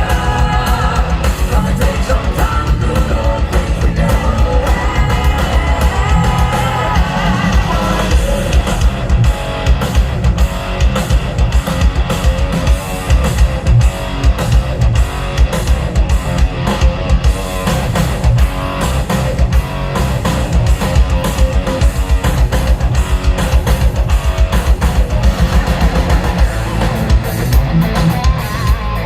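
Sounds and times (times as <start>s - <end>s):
heavy bass beat: 0.0s - 29.0s
loud rock music: 0.0s - 29.0s.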